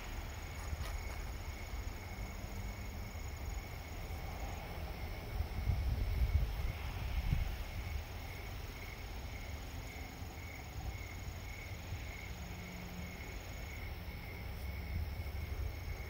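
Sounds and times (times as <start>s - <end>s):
low city rumble: 0.0s - 16.0s
night insects chirping: 0.0s - 16.0s.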